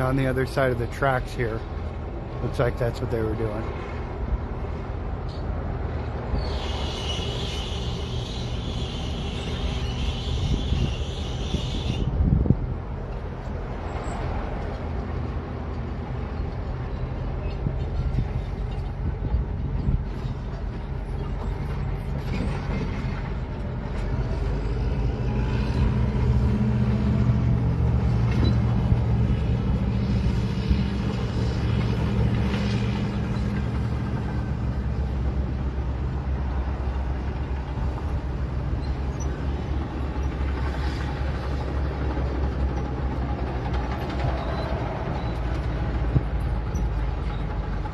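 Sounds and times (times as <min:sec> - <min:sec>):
heavy equipment engine running: 0:00.0 - 0:47.9.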